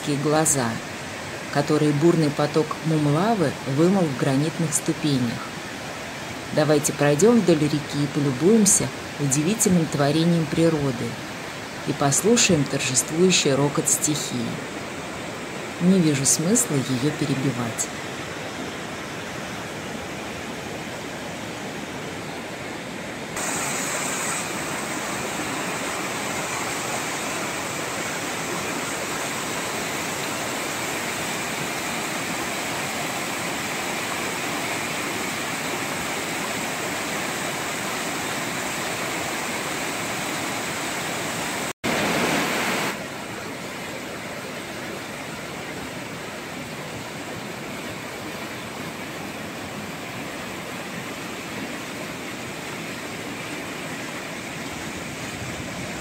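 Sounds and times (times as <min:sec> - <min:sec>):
waterfall and rapids roaring: 0:00.0 - 0:56.0.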